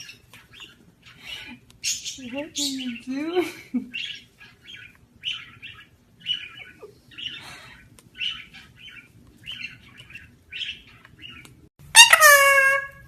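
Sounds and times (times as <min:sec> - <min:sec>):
parrot chirping and squeaking: 0:00.0 - 0:03.0, 0:03.9 - 0:13.0.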